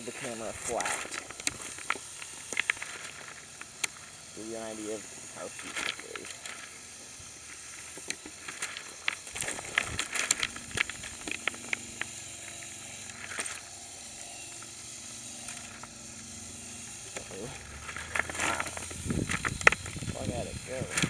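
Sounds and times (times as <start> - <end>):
electric motor whine: 0.0 - 21.0.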